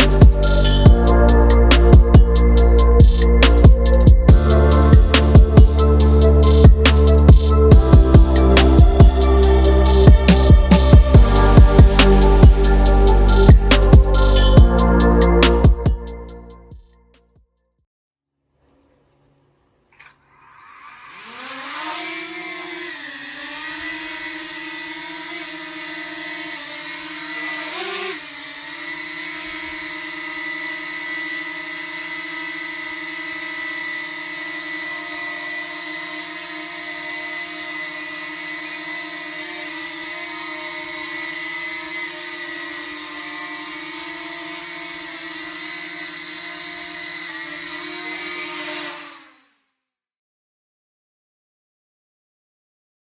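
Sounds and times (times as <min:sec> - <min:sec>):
drone propellers whirring: 0:00.0 - 0:16.6, 0:20.4 - 0:49.5.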